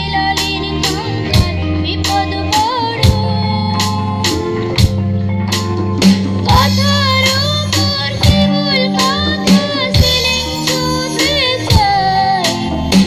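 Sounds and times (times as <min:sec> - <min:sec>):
woman singing into a microphone: 0:00.0 - 0:05.0, 0:06.3 - 0:13.0
bass guitar: 0:00.0 - 0:13.0
drum kit beat: 0:00.0 - 0:13.0
electric guitar: 0:00.0 - 0:13.0
keyboard: 0:00.0 - 0:13.0.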